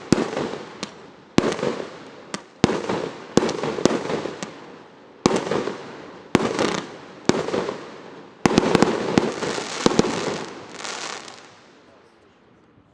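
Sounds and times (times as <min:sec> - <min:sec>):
fireworks bangs: 0:00.0 - 0:11.9
crackling fizz of fireworks: 0:00.0 - 0:12.2.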